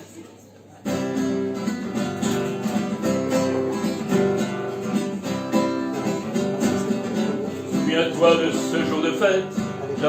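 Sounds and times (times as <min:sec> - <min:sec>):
strummed acoustic guitar: 0:00.8 - 0:10.0.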